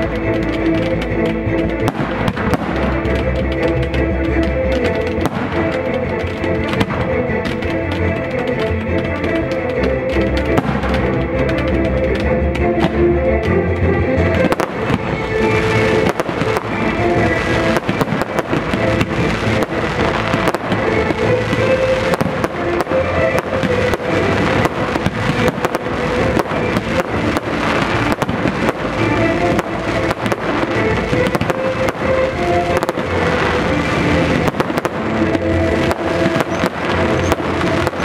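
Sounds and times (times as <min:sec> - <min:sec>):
fireworks bursts and crackles: 0:00.0 - 0:38.0
music playing: 0:00.0 - 0:38.0.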